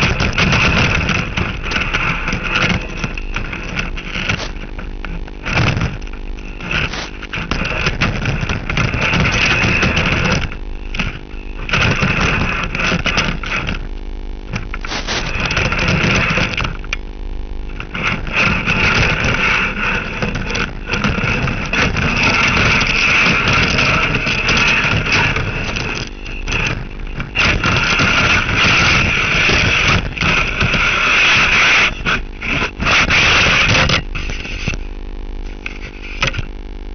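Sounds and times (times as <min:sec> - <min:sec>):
loud machine noise: 0:00.0 - 0:36.9.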